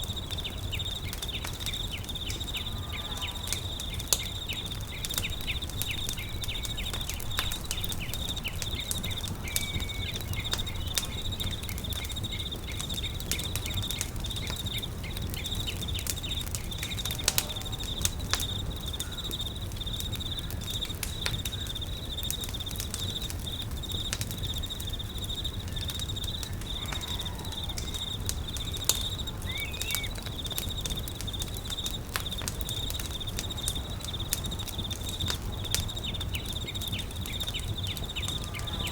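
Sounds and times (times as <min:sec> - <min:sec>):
campfire crackling and popping: 0:00.0 - 0:38.9
high-pitched insect trill: 0:00.0 - 0:38.9
bird chirps: 0:00.2 - 0:22.4, 0:23.0 - 0:32.0, 0:35.6 - 0:38.9.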